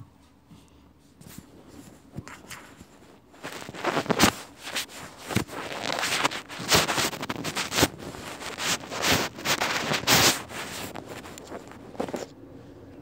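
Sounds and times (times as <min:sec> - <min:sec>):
phone handling rustling and scraping: 0:01.2 - 0:12.3.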